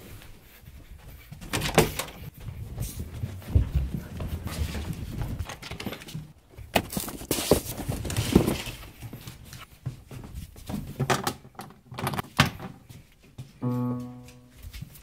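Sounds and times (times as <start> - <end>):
rustling noise: 0.0 - 11.0, 12.8 - 15.0.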